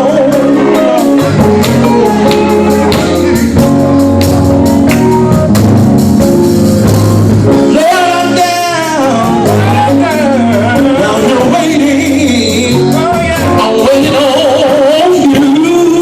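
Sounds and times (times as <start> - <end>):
gospel band playing: 0.0 - 16.0
held bass notes: 0.0 - 16.0
percussive beat: 0.2 - 15.8.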